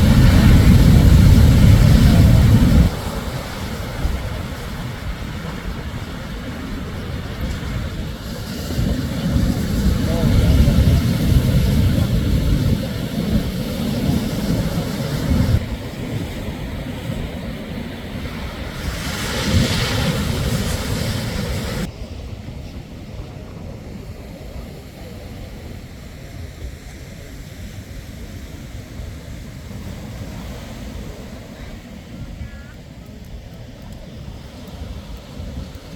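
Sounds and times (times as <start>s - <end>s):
waves breaking on beach: 0.0s - 35.9s.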